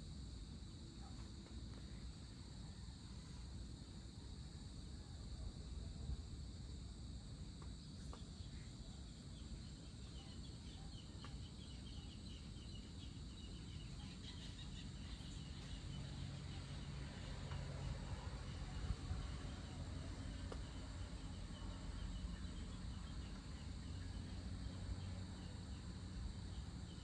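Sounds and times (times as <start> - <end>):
crickets and insects trilling: 0.0 - 27.0
higher insect chirps: 0.0 - 27.0.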